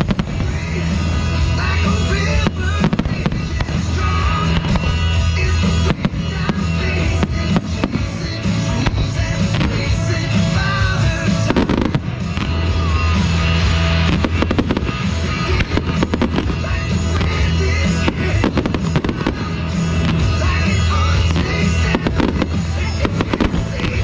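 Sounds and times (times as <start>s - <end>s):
fireworks bangs and crackles: 0.0s - 24.0s
loud music with bass: 0.0s - 24.0s.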